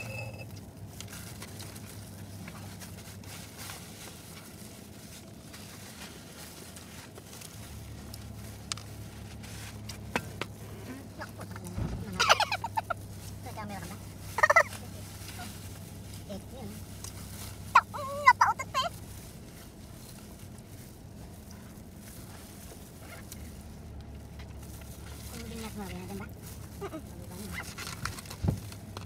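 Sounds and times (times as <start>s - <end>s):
low hum inside car: 0.0s - 29.0s.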